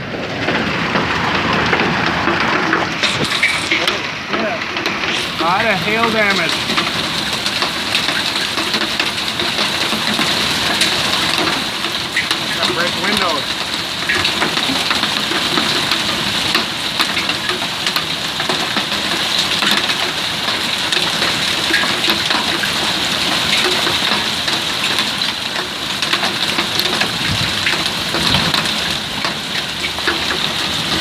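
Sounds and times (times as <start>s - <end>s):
heavy rain pattering: 0.0s - 31.0s.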